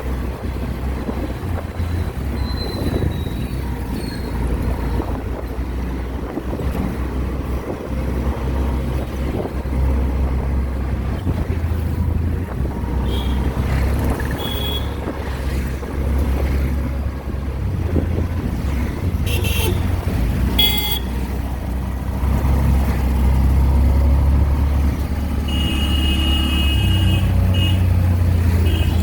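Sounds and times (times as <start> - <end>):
auto-rickshaw engine running: 0.0 - 29.0.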